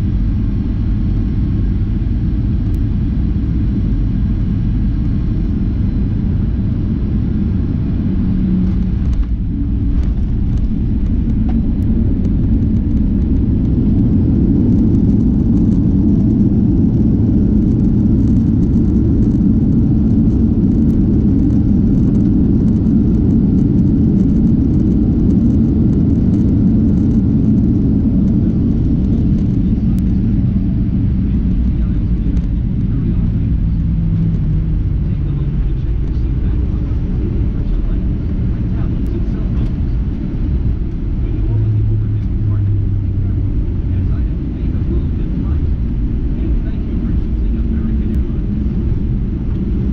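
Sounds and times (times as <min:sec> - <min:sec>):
jet engines and wheels rumbling: 0:00.0 - 0:49.9.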